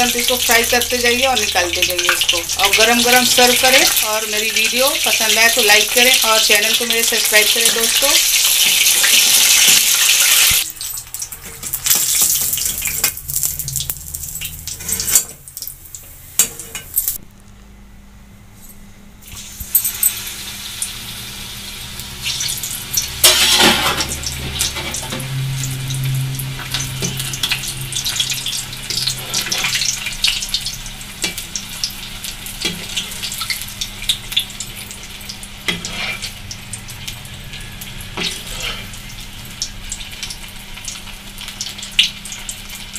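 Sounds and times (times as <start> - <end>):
food sizzling in hot oil: 0.0 - 17.2, 19.2 - 42.9.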